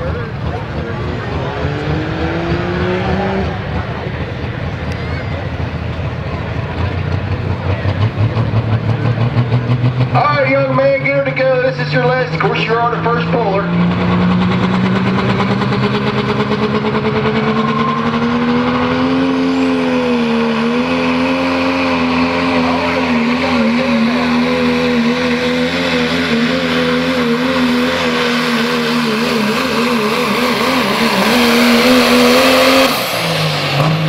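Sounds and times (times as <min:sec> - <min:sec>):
diesel truck engine at full throttle: 0:00.0 - 0:34.0.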